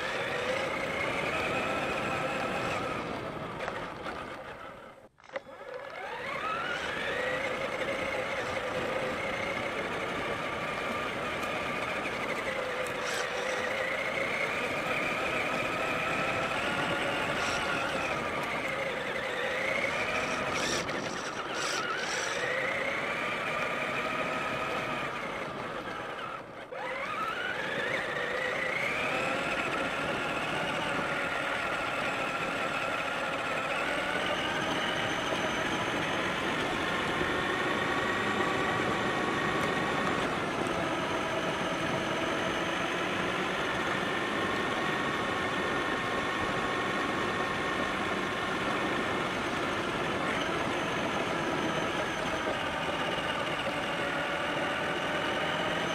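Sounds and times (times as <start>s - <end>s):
toy truck electric motor whining: 0.0s - 55.9s.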